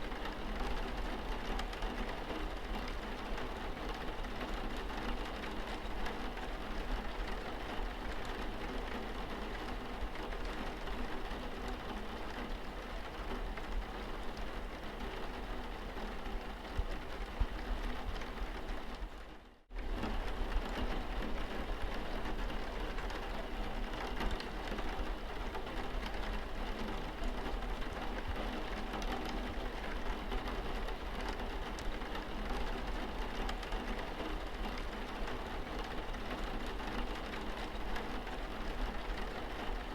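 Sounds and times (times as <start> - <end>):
rain on a car windscreen: 0.0 - 39.9.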